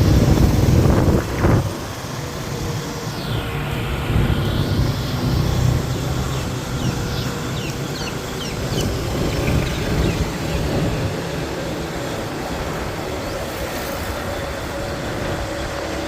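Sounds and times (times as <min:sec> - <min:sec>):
motorbike engine rumble: 0:00.0 - 0:16.0
road and wind noise: 0:00.0 - 0:16.0.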